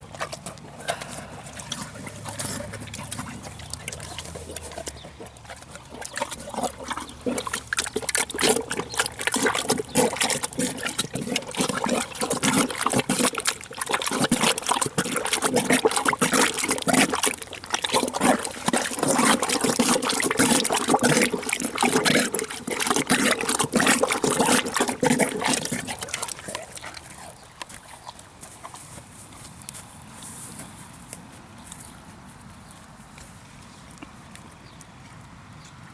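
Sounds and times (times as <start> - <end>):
horse chewing wetly: 0.0 - 35.9.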